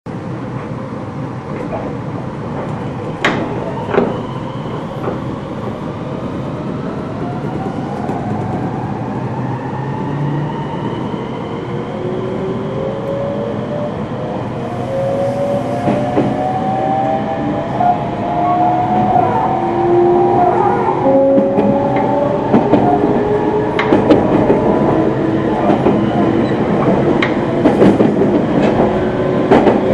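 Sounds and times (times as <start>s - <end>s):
wheel and rail rumble: 0.1s - 29.9s.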